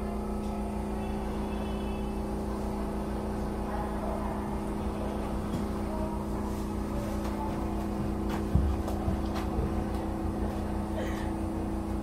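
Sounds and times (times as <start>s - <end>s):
electrical hum: 0.0s - 12.0s
train low rumble: 0.0s - 12.0s.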